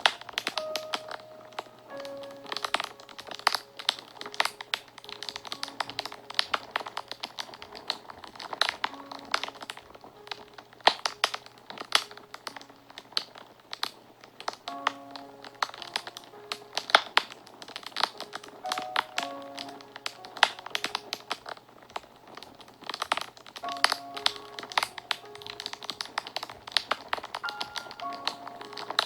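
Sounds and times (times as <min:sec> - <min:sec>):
faint background music: 0:00.0 - 0:29.0
fire crackling and popping: 0:00.0 - 0:29.0.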